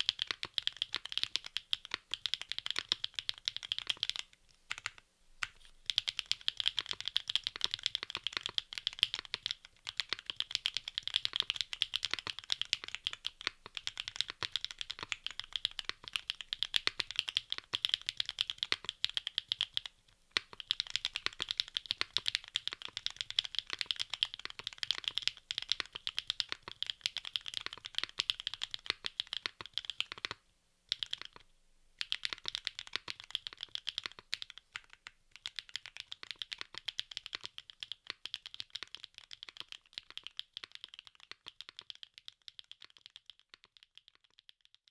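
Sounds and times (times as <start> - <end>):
mechanical keyboard typing: 0.0 - 31.4, 32.0 - 44.8.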